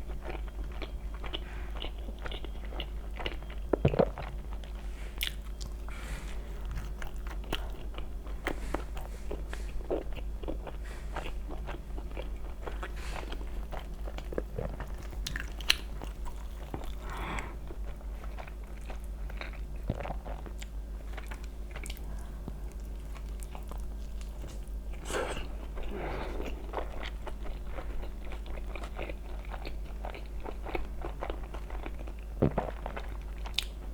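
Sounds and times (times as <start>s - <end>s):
chewing crunchy pizza crust: 0.0s - 33.9s
steady low hum: 0.0s - 33.9s.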